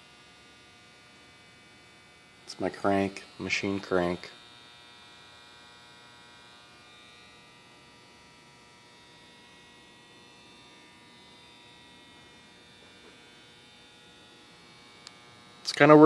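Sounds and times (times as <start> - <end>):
electrical hum and buzz: 0.0 - 16.0
thin high whine: 2.4 - 16.0.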